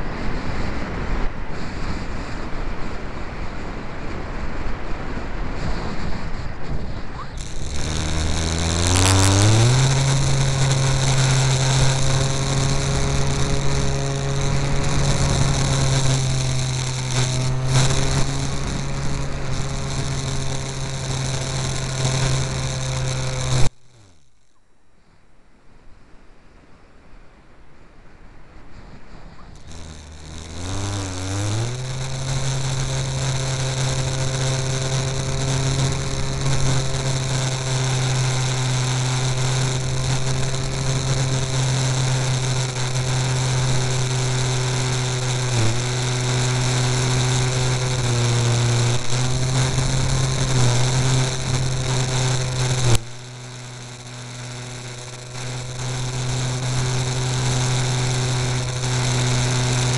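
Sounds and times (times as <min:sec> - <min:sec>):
small motor buzzing drone: 0:00.0 - 0:24.6, 0:28.7 - 0:59.9.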